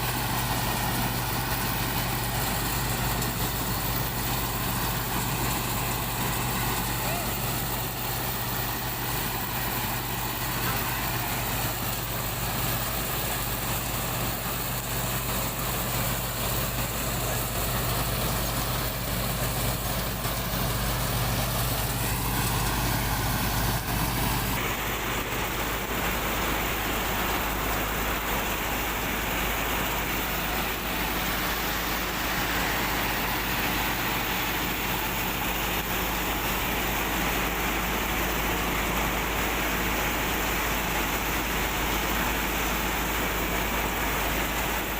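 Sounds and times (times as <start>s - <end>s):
heavy machinery engines running: 0.0s - 44.9s.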